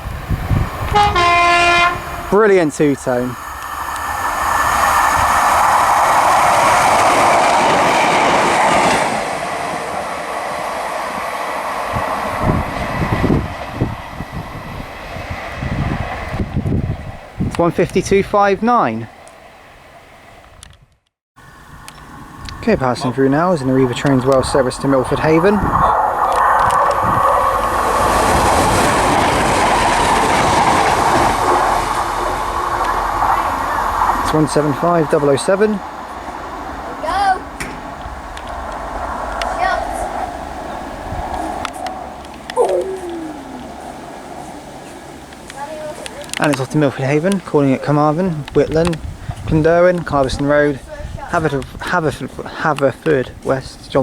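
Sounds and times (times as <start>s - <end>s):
train wheels rushing on rail: 0.0s - 19.2s, 22.5s - 54.0s.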